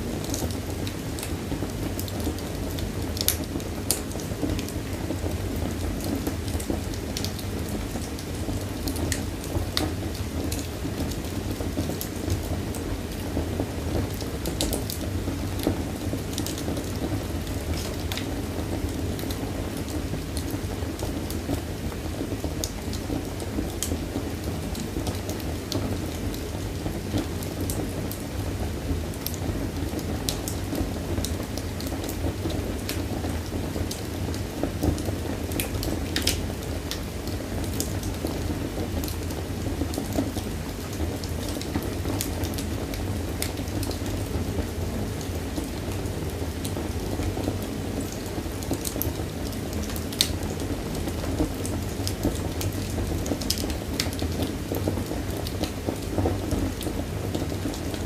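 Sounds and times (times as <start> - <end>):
low sound of flames: 0.0 - 58.0
wood fire crackling and popping: 0.0 - 58.0.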